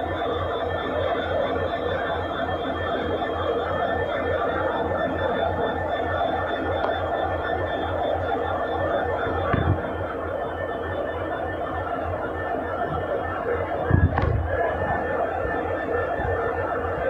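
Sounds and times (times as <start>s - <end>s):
thin steady whine: 0.0s - 17.0s
train diesel engine idling: 0.0s - 17.0s.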